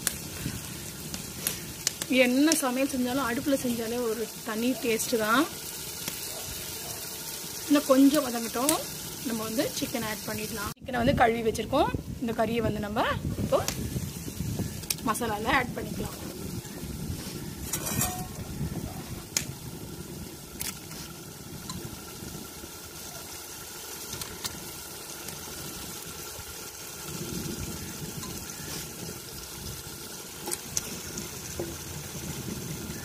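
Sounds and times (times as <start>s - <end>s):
sauce bubbling in pot: 0.0s - 10.8s, 13.3s - 33.0s.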